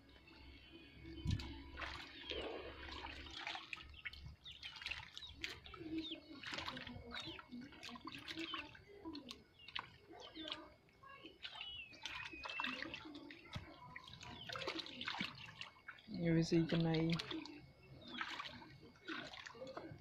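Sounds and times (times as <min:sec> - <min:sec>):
water splashing and trickling: 0:00.0 - 0:20.0
frogs chirping: 0:00.6 - 0:20.0.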